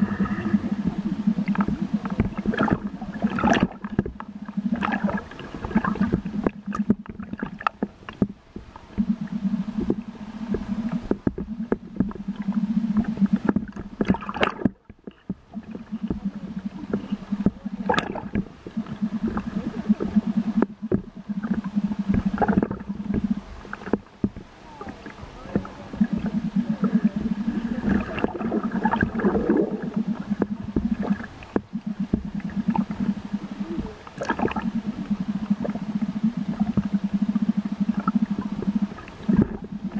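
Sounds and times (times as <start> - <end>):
exhaled bubbles gurgling: 0.0 - 39.9
crackling and clicks: 0.3 - 39.9.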